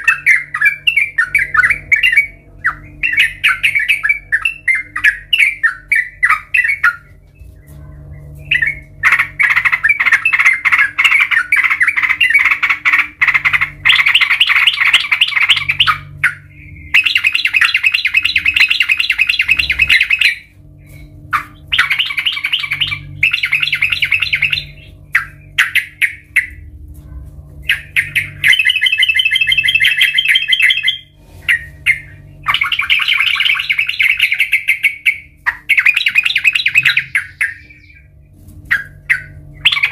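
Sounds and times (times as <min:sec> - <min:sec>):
bird singing chattering notes: 0:00.0 - 0:26.7, 0:27.6 - 0:39.9.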